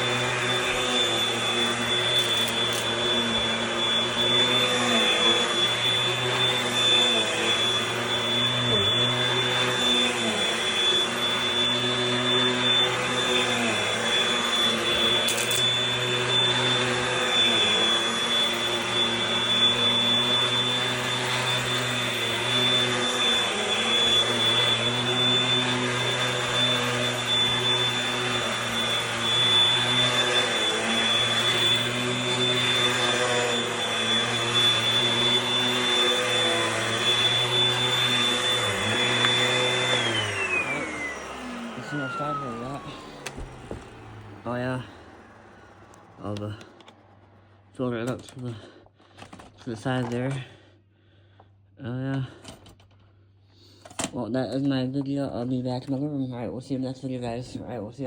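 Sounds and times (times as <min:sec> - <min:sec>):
upright vacuum cleaner whining: 0:00.0 - 0:58.0.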